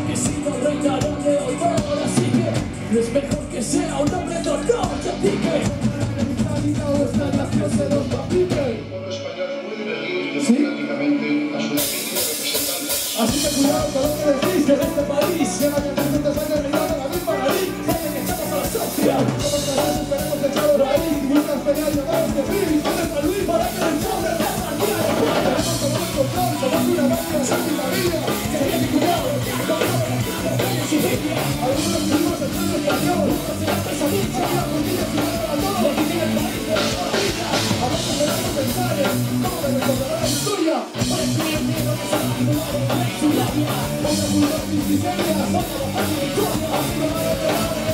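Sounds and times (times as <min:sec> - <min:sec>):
drum kit: 0:00.0 - 0:09.2, 0:11.6 - 0:47.9
electric guitars: 0:00.0 - 0:47.9
men singing into microphones: 0:00.0 - 0:47.9.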